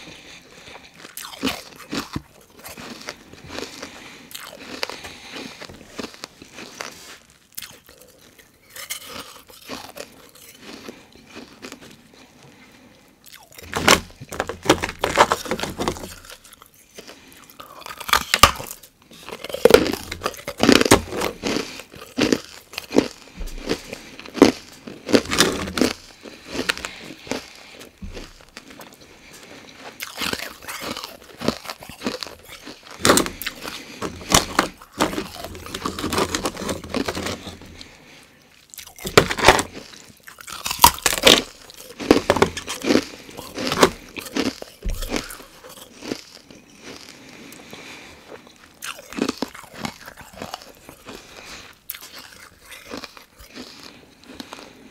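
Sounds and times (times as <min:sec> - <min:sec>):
mouth crunching ice: 0:00.0 - 0:54.9.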